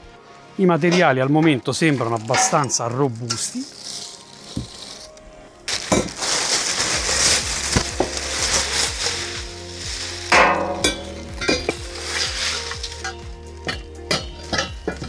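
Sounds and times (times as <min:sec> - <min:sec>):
plastic bags crinkling: 0:01.7 - 0:14.7.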